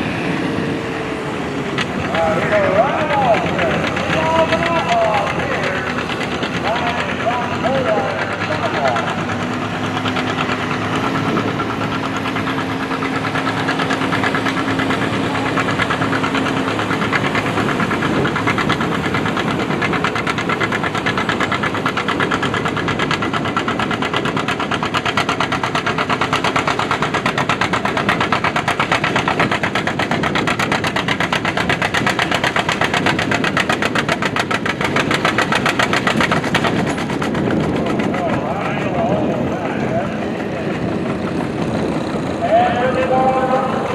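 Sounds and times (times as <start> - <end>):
tractor engine running hard: 0.0 - 43.9.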